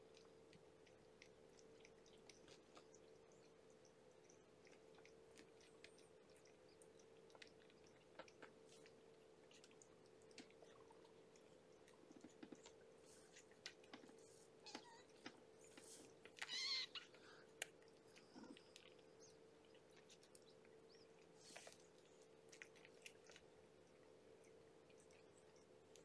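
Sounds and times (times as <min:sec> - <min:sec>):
faint steady hum: 0:00.0 - 0:26.0
kittens suckling wet clicks: 0:00.0 - 0:26.0.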